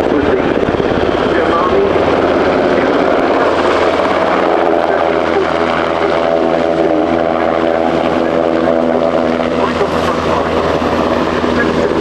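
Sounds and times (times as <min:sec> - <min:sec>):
helicopter flying low: 0:00.0 - 0:12.0.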